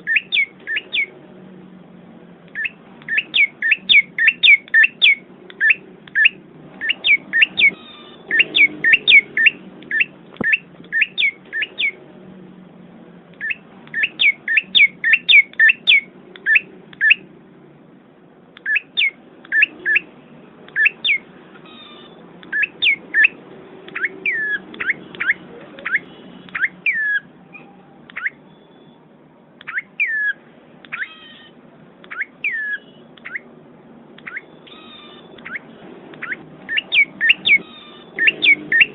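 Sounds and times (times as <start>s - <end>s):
bird chirping: 0.0s - 1.2s, 2.5s - 12.0s, 13.4s - 17.2s, 18.6s - 20.1s, 20.7s - 29.0s, 29.6s - 33.5s, 34.2s - 38.9s.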